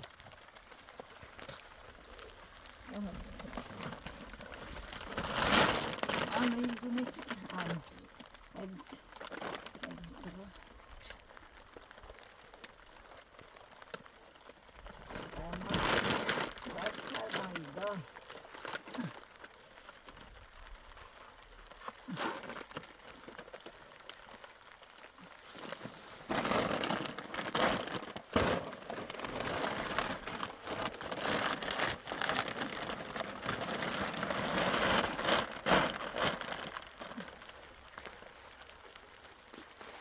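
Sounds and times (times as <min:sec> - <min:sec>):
plastic sheeting crinkling: 0:00.0 - 0:40.0.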